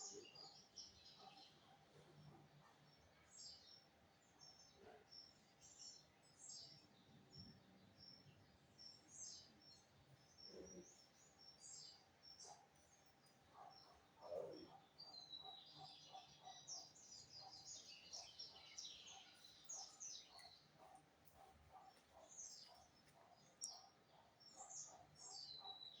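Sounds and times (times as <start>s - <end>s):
bird singing chirps and trills: 0.0s - 26.0s.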